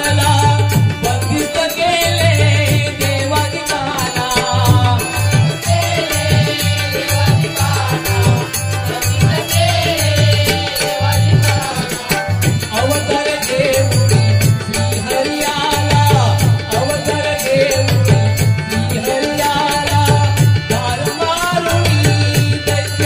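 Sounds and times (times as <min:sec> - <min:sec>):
hand drums beating folk rhythm: 0:00.0 - 0:23.0
harmonium melody: 0:00.0 - 0:23.0.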